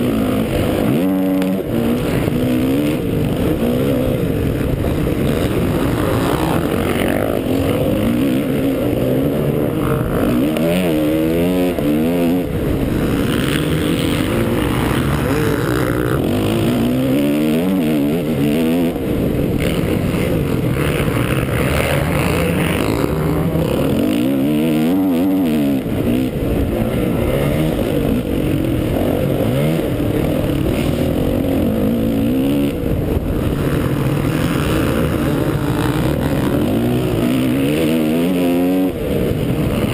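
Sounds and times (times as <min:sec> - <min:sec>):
constant rush of noise: 0:00.0 - 0:39.9
motocross bike engine revving: 0:00.0 - 0:39.9.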